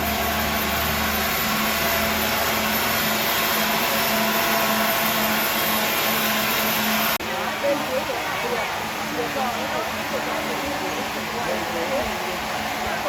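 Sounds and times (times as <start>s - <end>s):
machine whirring: 0.0s - 13.0s.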